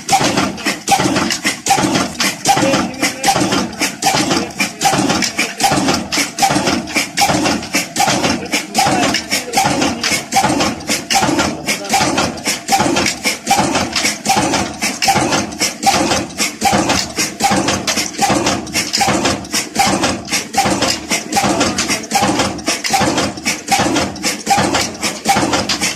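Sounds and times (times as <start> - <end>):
stationary diesel engine knocking: 0.0 - 25.9.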